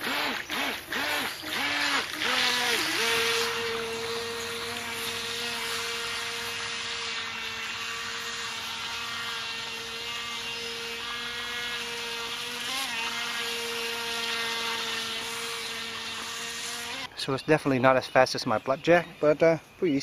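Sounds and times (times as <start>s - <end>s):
electric motor whining: 0.0s - 17.1s.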